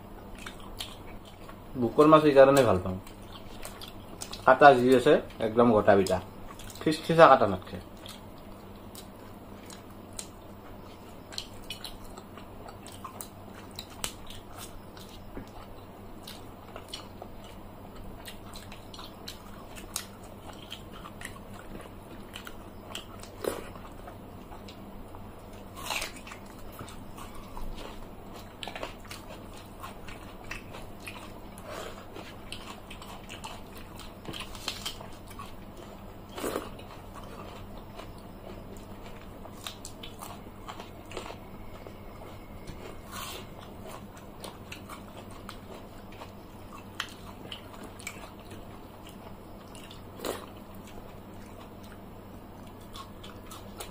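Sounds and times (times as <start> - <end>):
chewing and crunching fried fish: 0.0 - 53.9.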